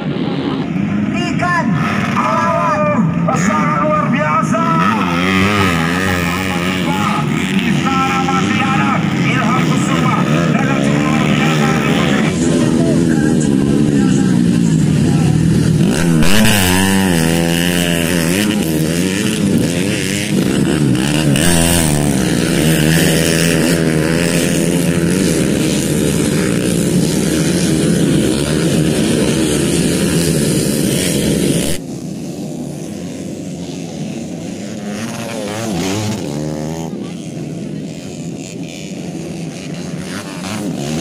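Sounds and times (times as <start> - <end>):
motorcycles revving hard: 0.0 - 41.0.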